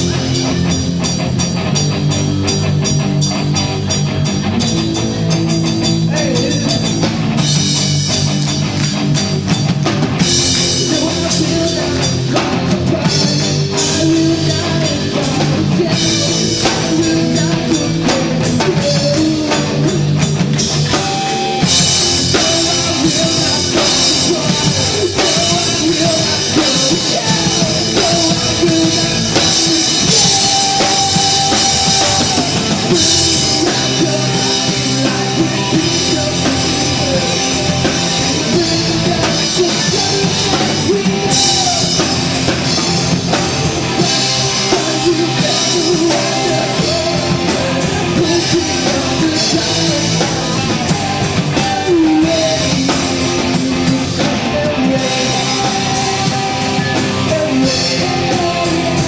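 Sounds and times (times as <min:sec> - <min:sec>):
drum kit: 0:00.0 - 0:59.0
electric guitar: 0:00.0 - 0:59.0
person singing: 0:05.9 - 0:07.2, 0:10.4 - 0:20.3, 0:20.9 - 0:59.0.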